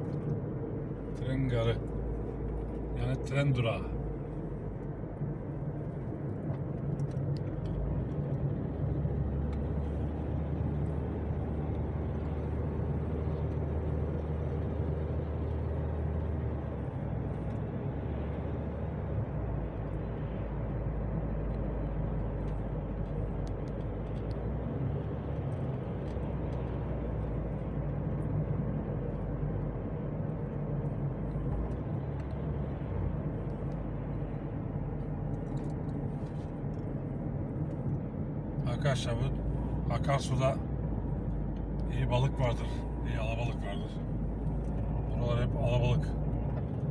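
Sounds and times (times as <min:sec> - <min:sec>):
car engine and tyre drone: 0:00.0 - 0:46.9.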